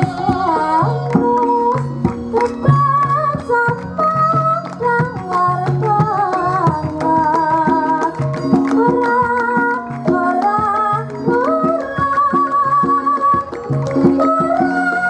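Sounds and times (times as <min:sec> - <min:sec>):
gamelan ensemble playing: 0:00.0 - 0:15.0
woman singing: 0:00.0 - 0:15.0.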